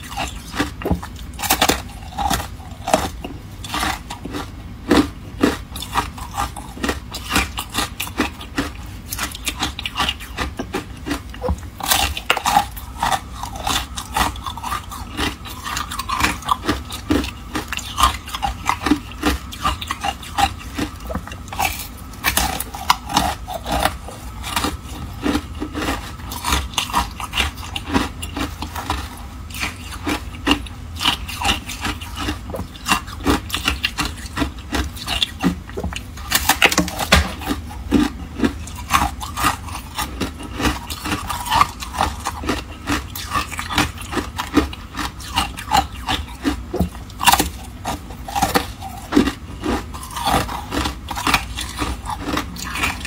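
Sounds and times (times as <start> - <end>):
chewing frozen ice: 0.0 - 53.0.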